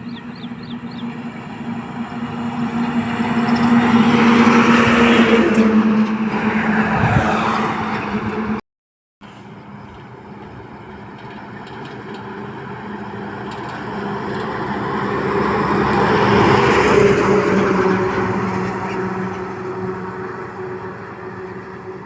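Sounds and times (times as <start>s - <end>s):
truck passing by: 0.0s - 8.6s, 9.3s - 22.0s.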